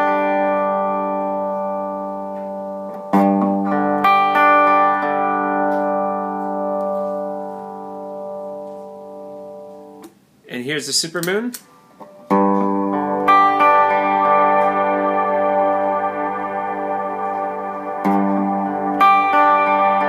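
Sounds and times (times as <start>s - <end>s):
clean electric guitar chords: 0.0s - 10.2s, 12.0s - 20.0s.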